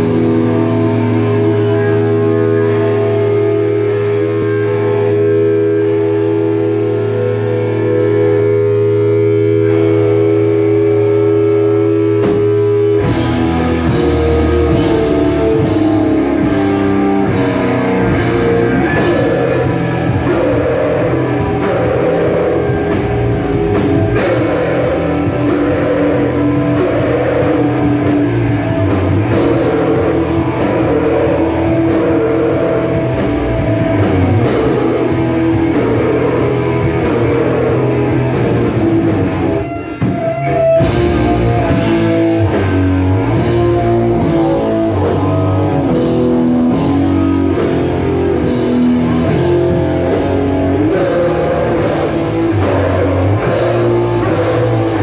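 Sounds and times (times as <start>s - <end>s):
heavy rock band playing: 0.0s - 55.0s.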